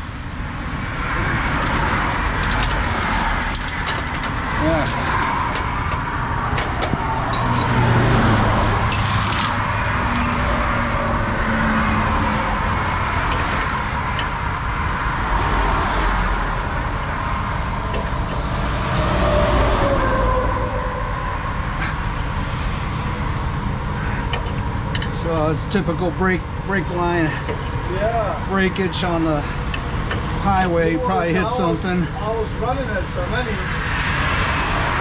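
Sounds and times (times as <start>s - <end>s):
highway traffic passing: 0.0s - 35.0s.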